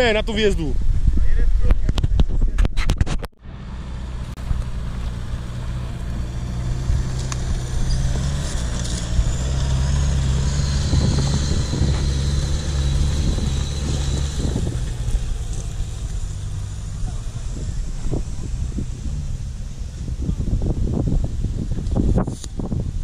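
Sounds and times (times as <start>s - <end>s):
pickup engine pulling under load: 3.4s - 22.1s.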